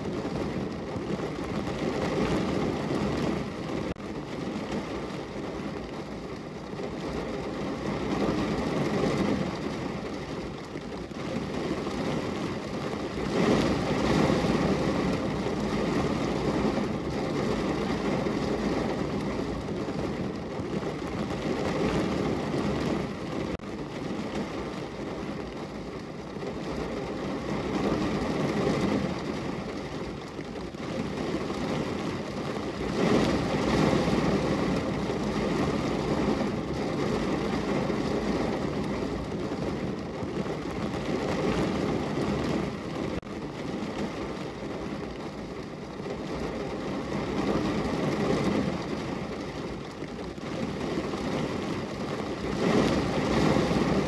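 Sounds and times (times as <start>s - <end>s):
rain at a window: 0.0s - 54.0s.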